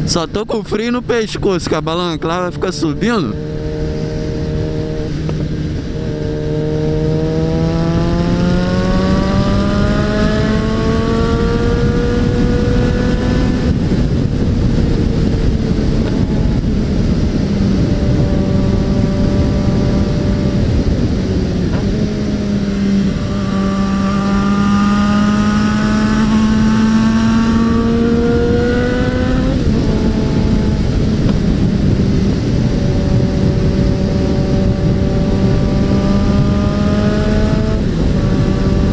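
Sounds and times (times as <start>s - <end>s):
wind and road noise: 0.0s - 38.9s
motorcycle engine accelerating: 2.2s - 38.9s.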